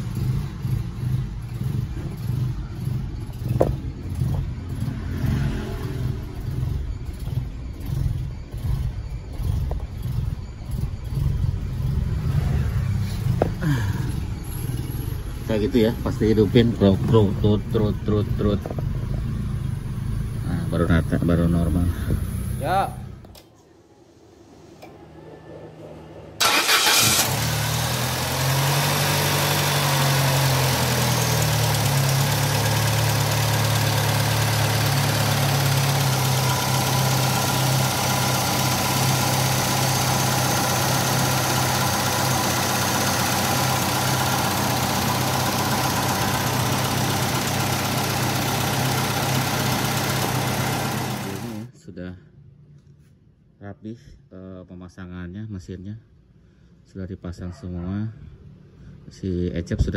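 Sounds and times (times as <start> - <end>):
car engine starting and idling: 0.0 - 23.5, 24.1 - 51.7.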